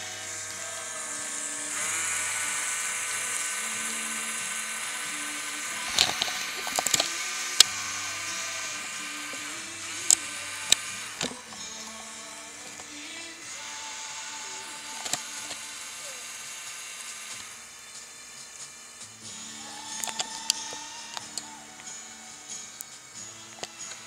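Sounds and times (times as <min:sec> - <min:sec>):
small electric motors whining: 0:00.0 - 0:24.0
sharp clicks: 0:00.2 - 0:22.0.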